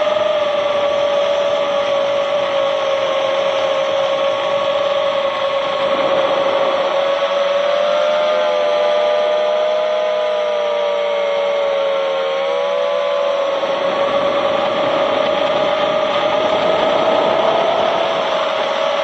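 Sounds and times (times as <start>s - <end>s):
drone motors whining: 0.0s - 19.0s
rushing noise: 0.0s - 19.0s.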